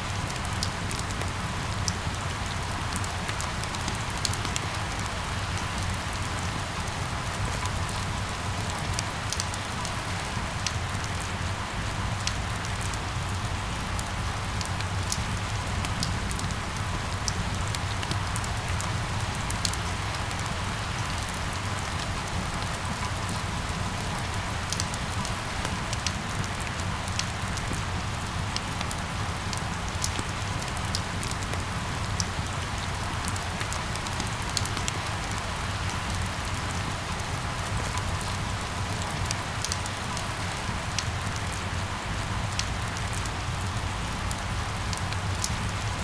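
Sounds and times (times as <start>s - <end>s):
rain on hard surfaces: 0.0s - 46.0s.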